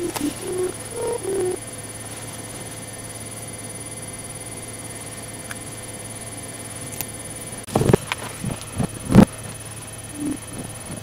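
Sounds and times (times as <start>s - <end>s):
electrical hum: 0.0s - 11.0s
faint high whine: 0.0s - 11.0s.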